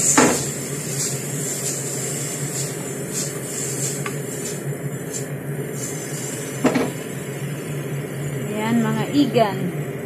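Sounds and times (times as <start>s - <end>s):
mushrooms sizzling in pan: 0.0s - 9.9s
steady low hum: 0.0s - 10.0s.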